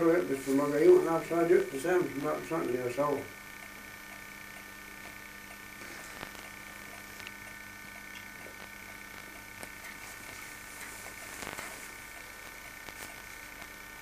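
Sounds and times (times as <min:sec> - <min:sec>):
electrical hum: 0:00.0 - 0:14.0
tape hiss: 0:00.0 - 0:14.0.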